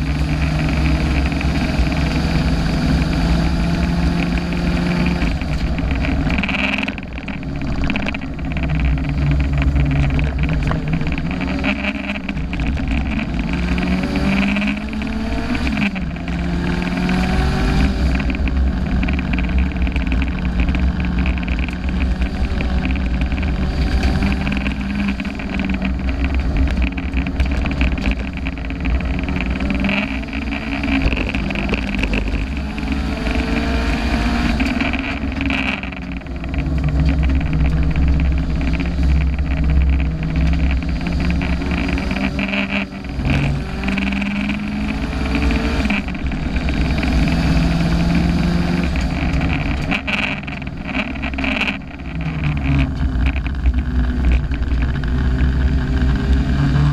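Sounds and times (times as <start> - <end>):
turbocharged car engine accelerating: 0.0 - 56.9.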